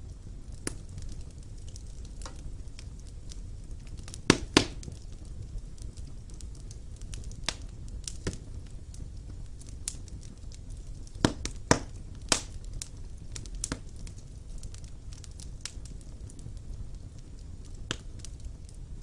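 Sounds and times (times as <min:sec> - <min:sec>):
fire crackling in a fireplace: 0:00.0 - 0:19.0.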